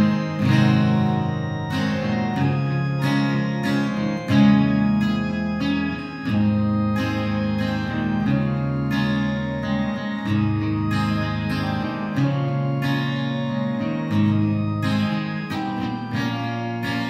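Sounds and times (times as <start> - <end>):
guitar strumming hymn: 0.0 - 17.0.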